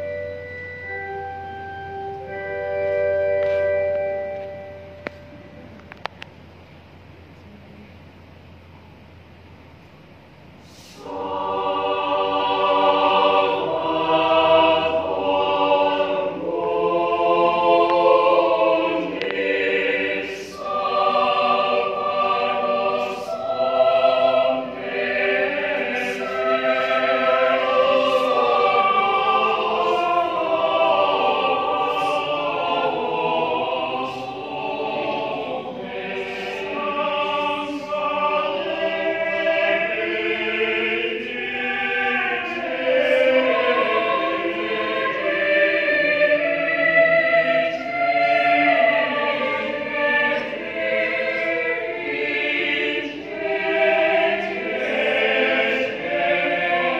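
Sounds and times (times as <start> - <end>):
mixed choir singing: 0.0 - 5.7, 10.6 - 56.9.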